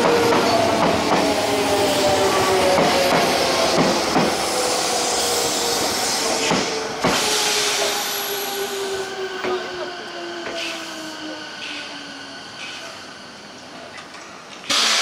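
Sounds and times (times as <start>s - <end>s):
electric train passing: 0.0s - 14.7s.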